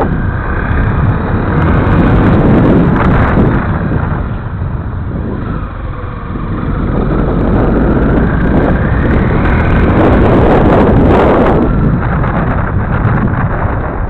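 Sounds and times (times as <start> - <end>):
motorcycle engine revving: 0.0 - 14.0
wind buffeting microphone: 0.0 - 14.0.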